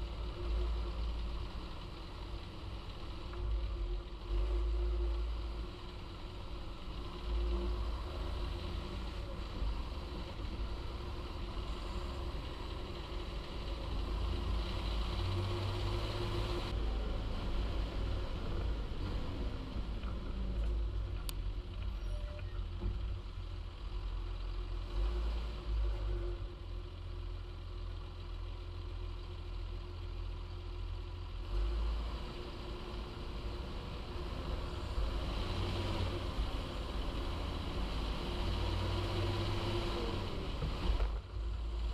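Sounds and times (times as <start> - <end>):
tractor diesel engine rumbling: 0.0 - 41.9.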